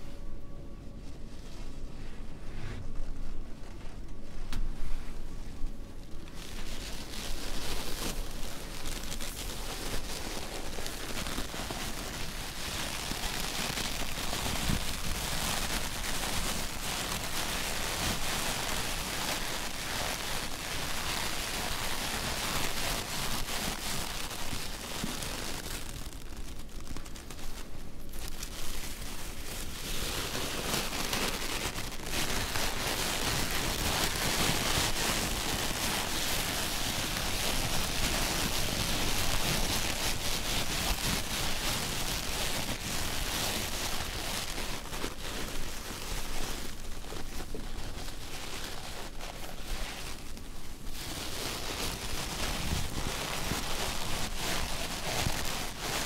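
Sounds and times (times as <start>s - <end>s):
packing filling crackling and rustling: 0.0s - 56.0s.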